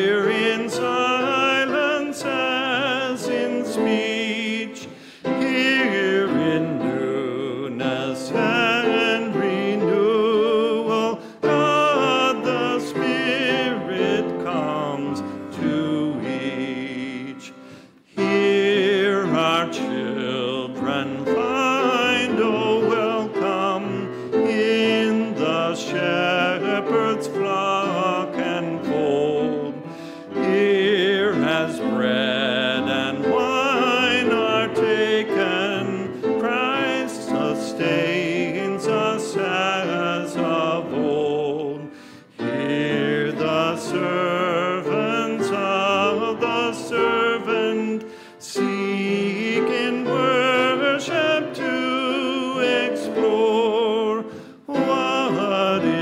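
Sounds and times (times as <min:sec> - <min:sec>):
congregation singing a hymn: 0:00.0 - 0:56.0
piano accompaniment: 0:00.0 - 0:56.0.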